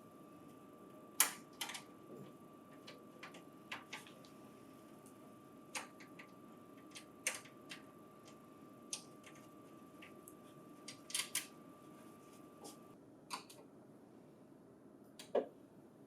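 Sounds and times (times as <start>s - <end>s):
faint steady high hum: 0.0s - 16.0s.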